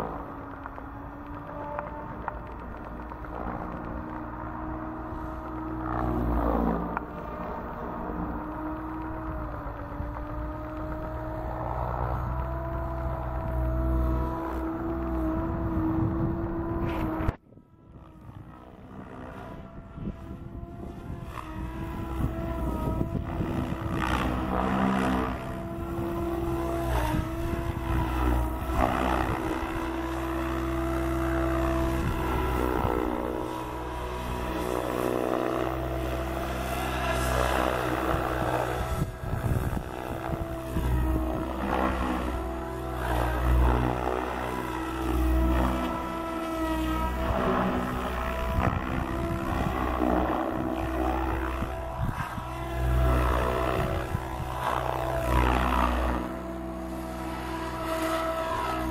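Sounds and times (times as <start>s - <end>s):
electric motor whine: 0.0s - 58.9s
helicopter rotor whirring: 0.0s - 58.9s.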